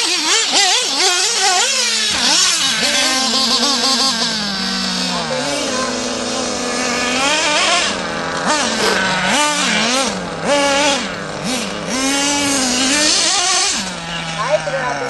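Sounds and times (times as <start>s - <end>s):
rc car motor revving: 0.0s - 15.0s.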